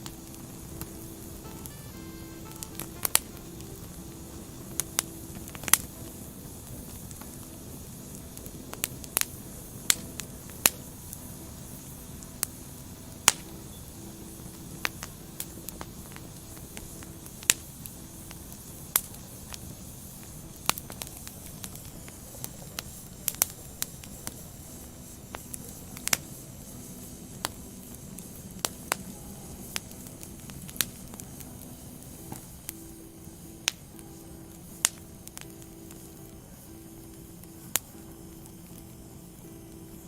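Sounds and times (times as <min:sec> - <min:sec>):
sharp pops of fire: 0:00.0 - 0:40.0
wood fire crackling: 0:00.0 - 0:40.0.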